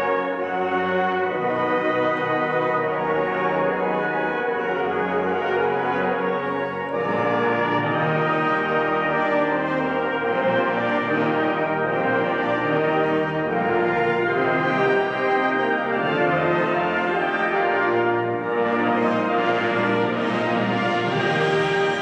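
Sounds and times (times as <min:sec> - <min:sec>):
wind band playing held chords: 0:00.0 - 0:22.0.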